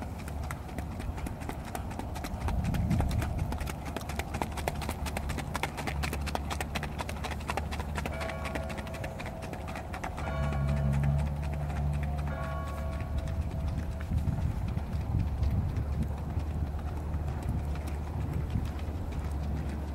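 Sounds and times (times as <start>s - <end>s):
horse hoofbeats on a track: 0.0s - 19.9s.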